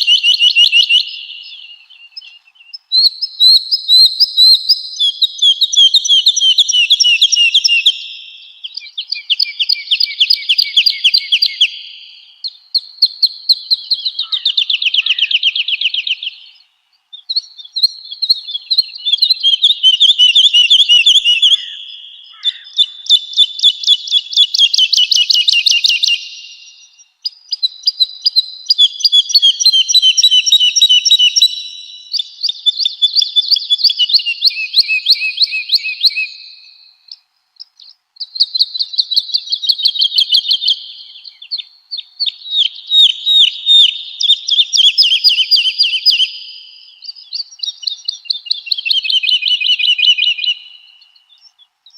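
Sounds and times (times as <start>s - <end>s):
woodlark singing: 0.0s - 51.9s.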